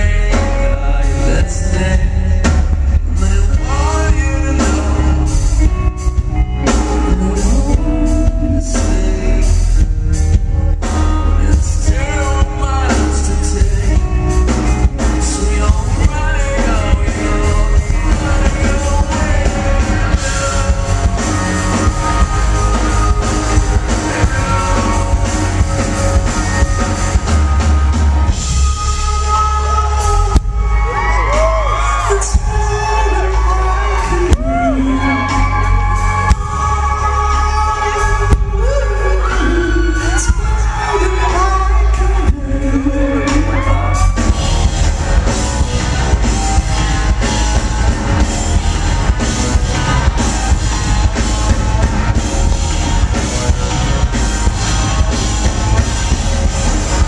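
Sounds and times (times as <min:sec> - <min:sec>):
man singing lead vocal: 0:00.0 - 0:57.0
rock band playing live: 0:00.0 - 0:57.0.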